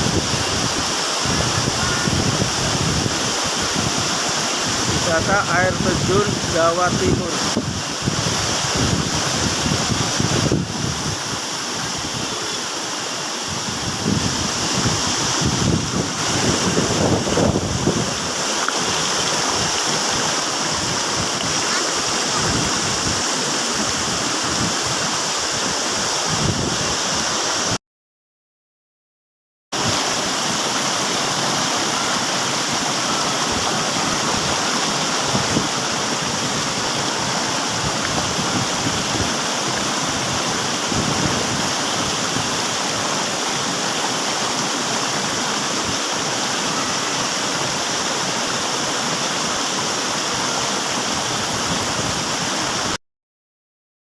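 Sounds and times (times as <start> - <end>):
waterfall rushing: 0.0 - 27.8, 29.8 - 53.0.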